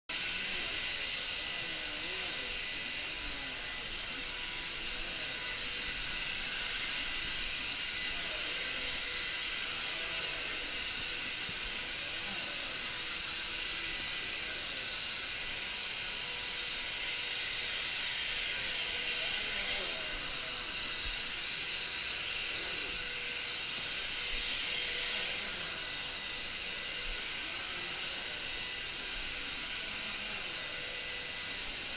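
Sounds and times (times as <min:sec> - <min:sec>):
high-pitched motor whine: 0:00.1 - 0:31.9
vacuum cleaner air rush: 0:00.1 - 0:31.9.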